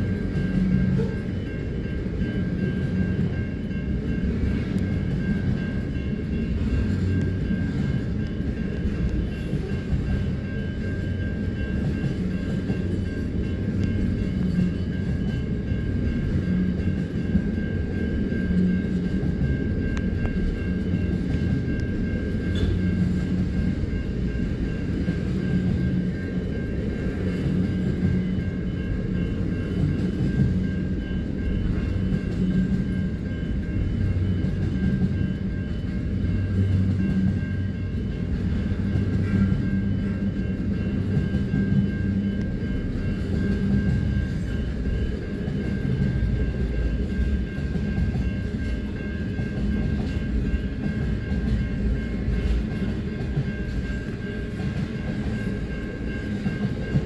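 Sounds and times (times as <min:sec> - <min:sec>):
crossing warning bell: 0:00.0 - 0:57.0
freight train wheels rumbling: 0:00.0 - 0:57.0.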